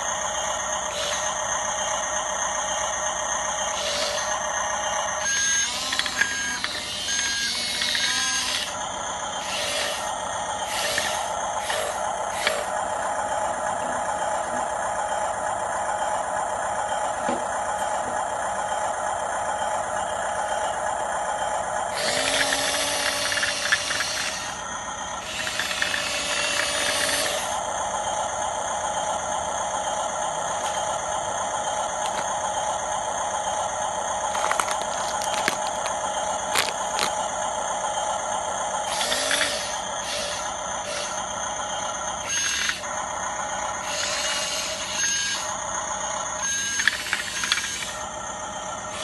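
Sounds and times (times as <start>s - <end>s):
tracks rattling: 0.0s - 46.0s
model bulldozer motor whine: 0.0s - 49.0s.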